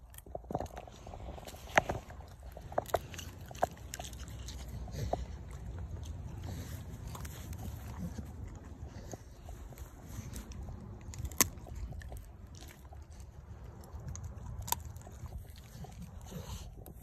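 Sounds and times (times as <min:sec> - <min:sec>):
dog gnawing wooden stick: 0:00.0 - 0:17.0.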